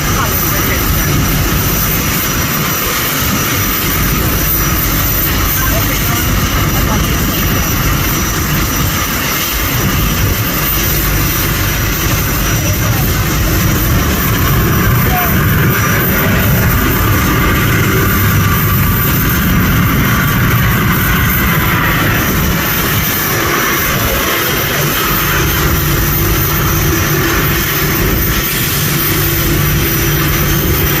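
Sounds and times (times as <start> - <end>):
jet engines rushing: 0.0 - 31.0
steady low hum: 0.0 - 31.0.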